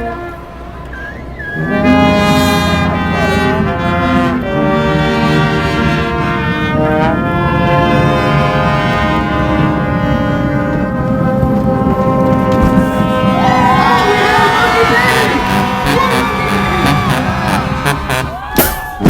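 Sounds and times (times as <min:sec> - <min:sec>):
brass band chords: 0:00.0 - 0:18.8.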